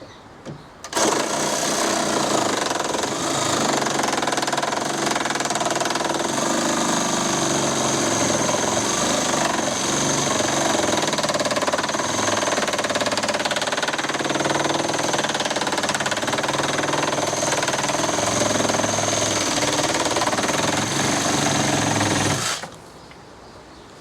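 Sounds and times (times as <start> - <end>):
reciprocating saw cutting: 0.9 - 22.8.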